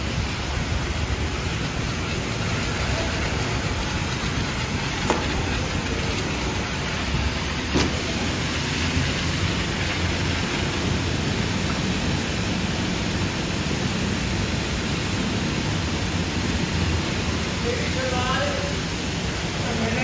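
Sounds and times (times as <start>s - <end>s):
high-pressure hoses spraying water: 0.0s - 20.0s.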